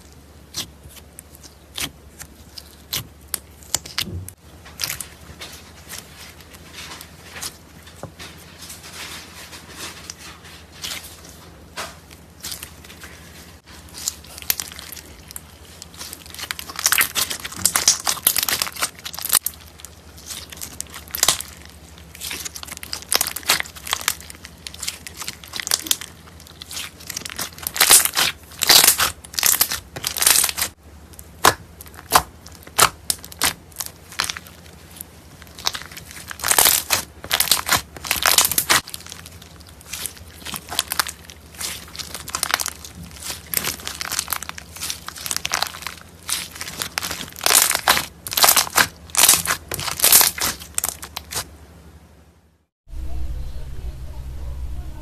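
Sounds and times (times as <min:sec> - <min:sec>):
slime squelching by hand: 0:00.0 - 0:51.6.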